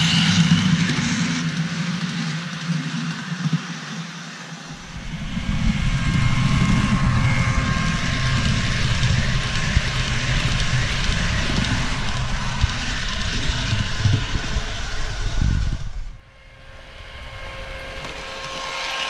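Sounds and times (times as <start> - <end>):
model train rumbling past: 0.0 - 19.0.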